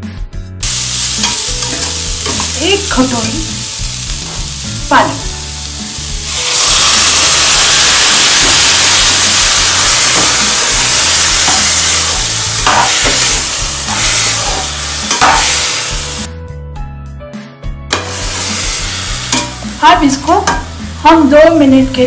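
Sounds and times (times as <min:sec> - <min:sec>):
water sizzling in hot pan: 0:00.6 - 0:16.3, 0:18.0 - 0:22.0.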